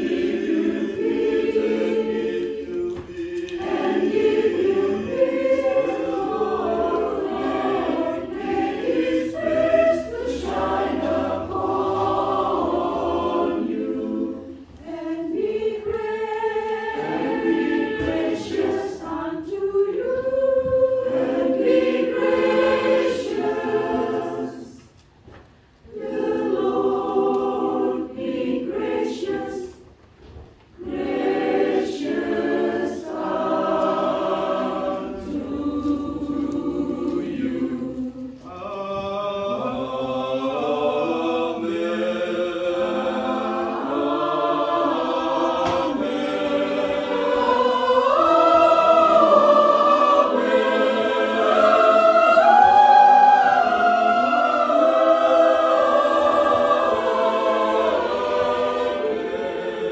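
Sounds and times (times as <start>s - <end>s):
mixed choir singing: 0.0s - 25.1s, 25.7s - 59.9s.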